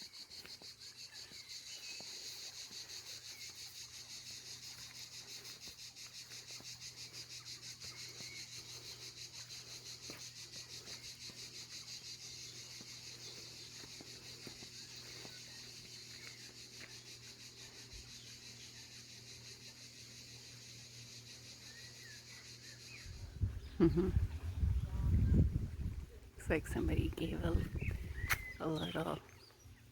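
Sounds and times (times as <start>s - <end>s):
insects buzzing chorus: 0.0s - 29.9s.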